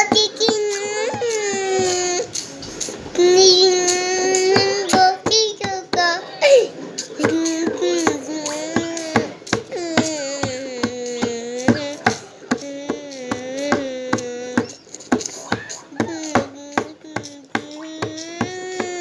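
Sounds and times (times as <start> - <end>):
beat of sharp taps: 0.0 - 6.1, 7.0 - 19.0.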